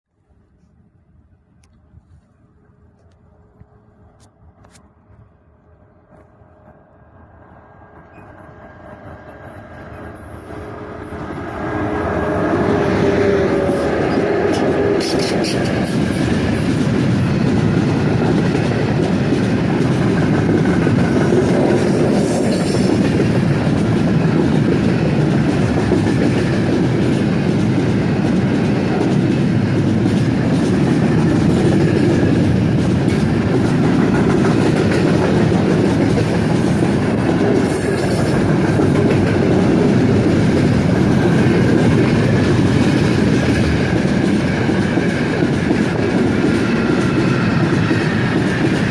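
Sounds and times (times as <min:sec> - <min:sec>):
freight train rolling past: 0:00.2 - 0:48.9.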